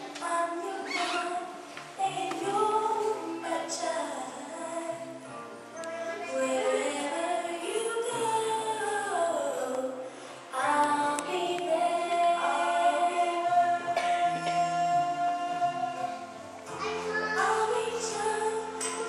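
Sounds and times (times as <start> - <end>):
person singing: 0.0 - 5.1, 5.8 - 19.0
instrumental backing music: 0.0 - 19.0.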